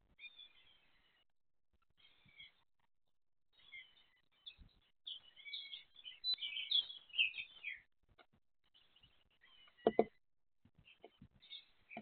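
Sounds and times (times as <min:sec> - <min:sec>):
small bird chirping and twittering: 0:00.1 - 0:01.3, 0:01.9 - 0:02.7, 0:03.5 - 0:10.2, 0:10.8 - 0:12.0.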